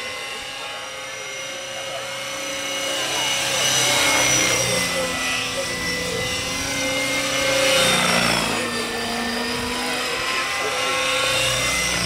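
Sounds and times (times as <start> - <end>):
model helicopter whining: 0.0 - 12.0.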